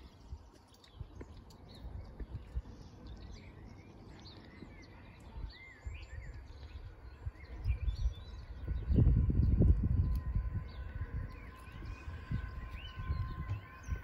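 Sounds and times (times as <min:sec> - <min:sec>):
low rumbling noise: 0:00.0 - 0:14.0
songbirds chirping: 0:00.0 - 0:14.0.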